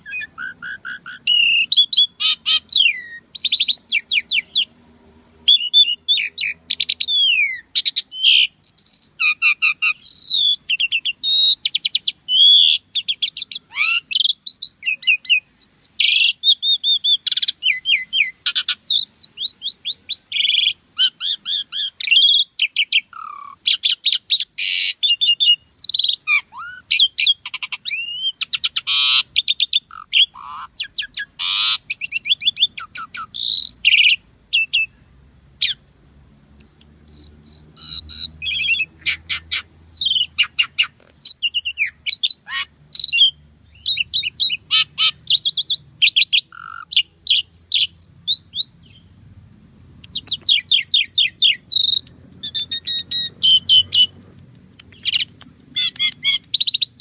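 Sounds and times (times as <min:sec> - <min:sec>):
starling singing: 0:00.0 - 0:35.9, 0:36.6 - 0:49.2, 0:50.0 - 0:57.0.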